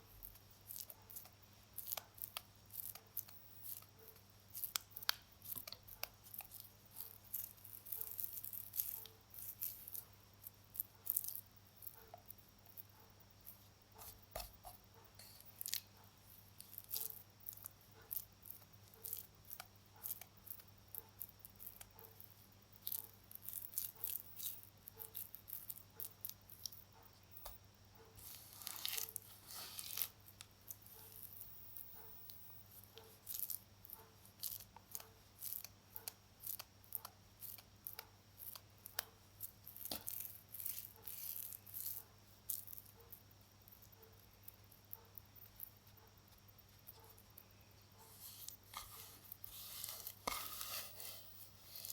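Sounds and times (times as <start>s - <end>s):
baking soda crumbling crackles: 0.0s - 51.9s.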